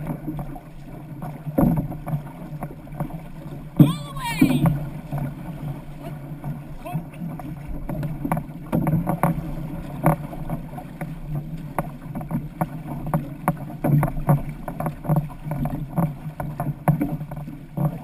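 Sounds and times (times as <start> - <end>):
paddles splashing and knocking: 0.0 - 18.0
water rushing along hull: 0.0 - 18.0.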